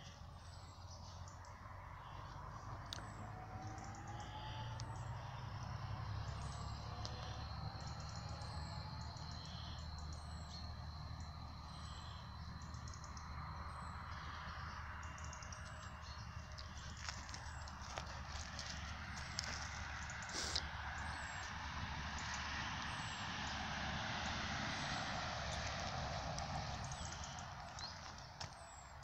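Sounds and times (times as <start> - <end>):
small birds chirping: 0.0 - 23.6, 24.7 - 29.0
faint rising whines: 1.4 - 28.8.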